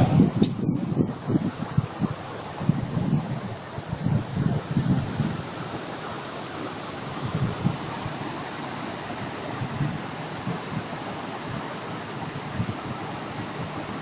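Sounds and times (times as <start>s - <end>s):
water rushing over gravel: 0.0s - 14.0s.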